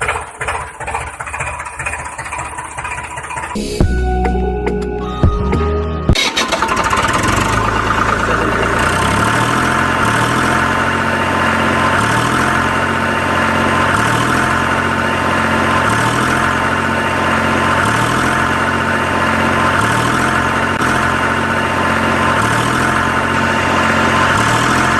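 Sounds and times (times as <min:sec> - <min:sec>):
small tractor motor running: 0:00.0 - 0:03.6, 0:06.1 - 0:24.9.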